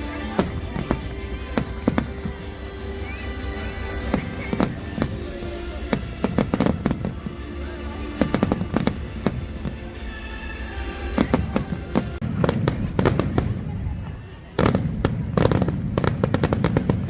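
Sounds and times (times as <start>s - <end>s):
fireworks bangs: 0.0s - 10.2s, 10.8s - 17.0s
music playing: 0.0s - 15.6s.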